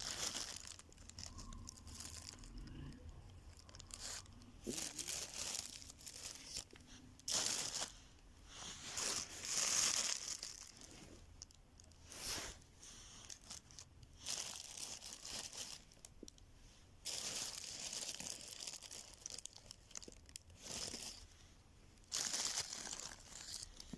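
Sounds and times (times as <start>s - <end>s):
crinkling and rustling: 0.0s - 23.9s.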